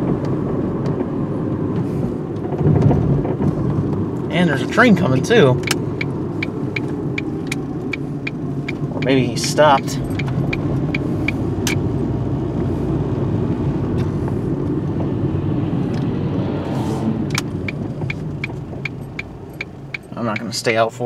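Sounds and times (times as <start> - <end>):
turn signal ticking: 0.0 - 16.1, 17.2 - 21.0
car engine and tyre rumble: 0.0 - 21.0.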